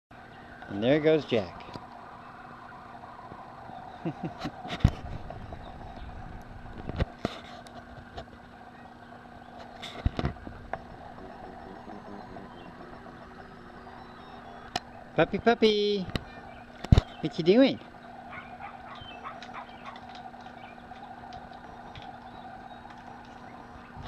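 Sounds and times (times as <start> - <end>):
steady background hum: 0.1 - 24.0.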